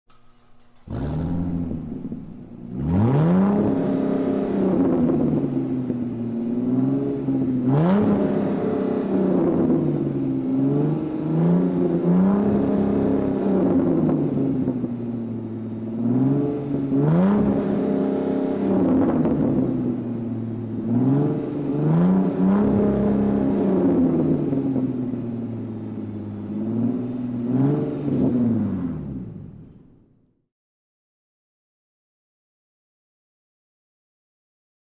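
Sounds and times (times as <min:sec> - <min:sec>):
car engine idling and revving: 0:00.1 - 0:30.3.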